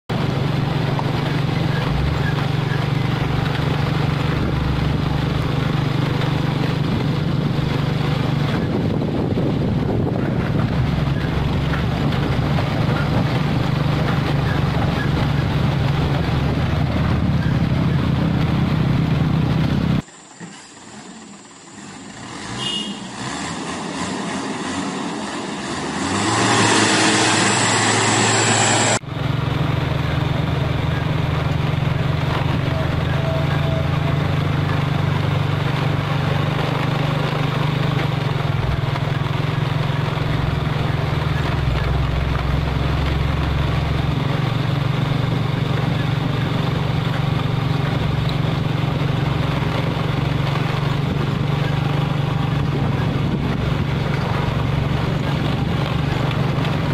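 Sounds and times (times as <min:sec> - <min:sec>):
diesel truck engine running: 0:00.1 - 0:56.9
tyre and road noise: 0:00.1 - 0:56.9.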